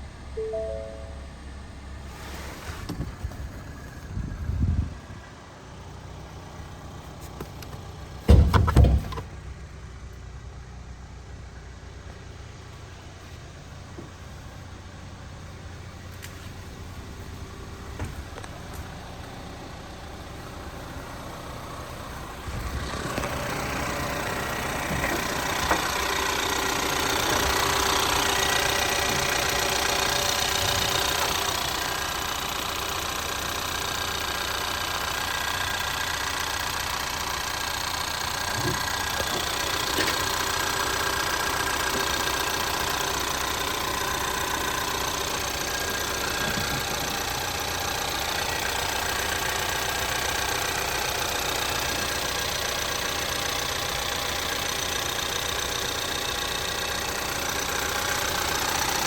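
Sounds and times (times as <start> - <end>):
car engine idling: 3.2 - 59.0.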